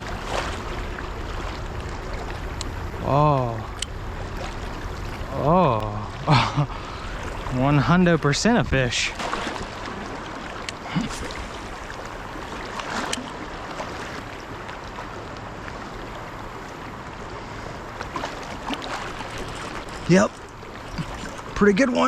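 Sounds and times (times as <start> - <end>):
flowing river water: 0.0 - 22.0.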